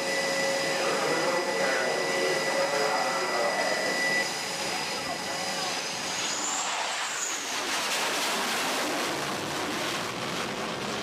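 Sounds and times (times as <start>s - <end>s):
jet engine roar with turbine whine: 0.0s - 11.0s.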